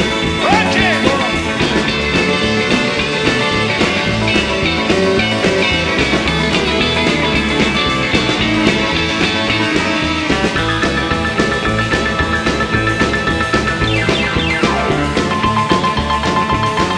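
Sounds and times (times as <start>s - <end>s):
rock music with electric guitar: 0.0s - 16.9s.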